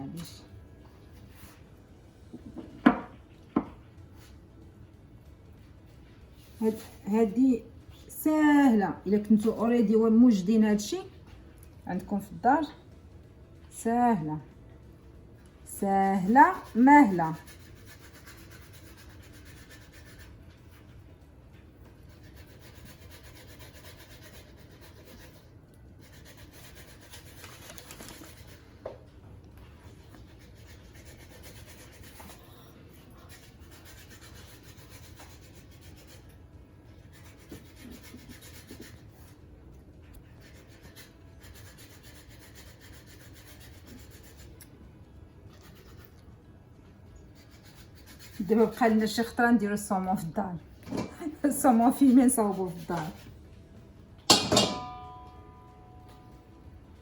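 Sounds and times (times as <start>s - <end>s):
steady low hum: 0.0s - 27.6s, 28.2s - 57.0s.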